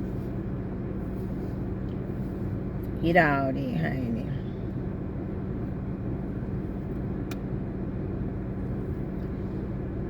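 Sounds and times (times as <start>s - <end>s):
air conditioning blowing: 0.0s - 10.0s
car engine hum: 0.0s - 10.0s.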